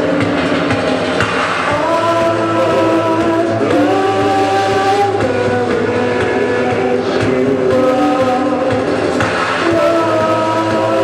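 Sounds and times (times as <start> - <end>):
band droning guitar chords: 0.0 - 11.0.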